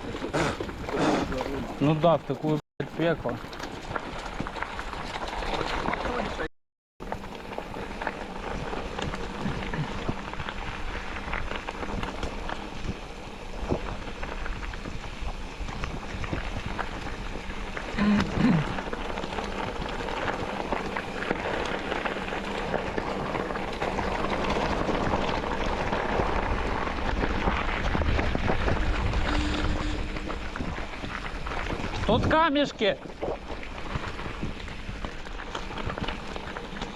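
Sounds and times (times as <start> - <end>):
tyres crunching on loose stones: 0.0 - 36.9.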